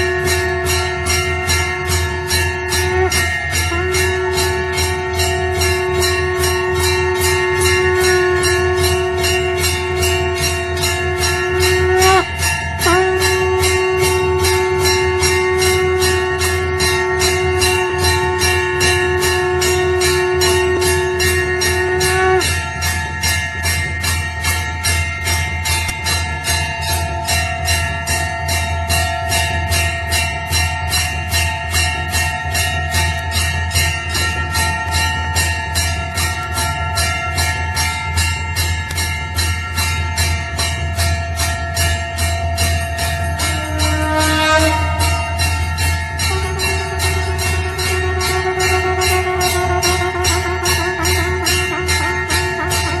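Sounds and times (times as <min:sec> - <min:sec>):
low steady drone: 0:00.0 - 0:24.6, 0:32.7 - 0:53.0
deep ringing tone: 0:00.0 - 0:53.0
temple bells ringing: 0:00.0 - 0:53.0.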